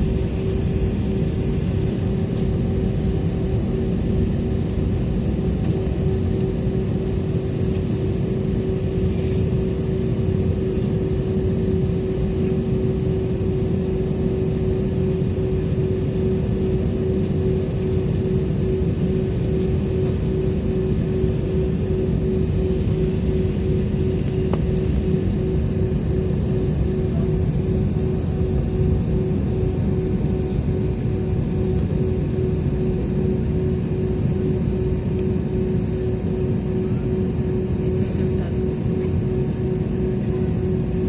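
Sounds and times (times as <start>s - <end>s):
jet engine drone from cabin: 0.0s - 41.0s
jet engine whine: 0.0s - 41.0s.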